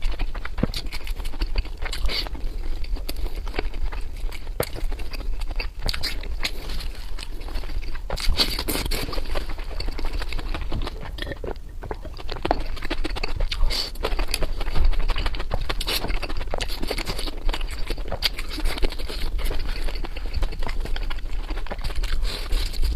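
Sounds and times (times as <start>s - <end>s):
person chewing wetly: 0.0s - 22.9s.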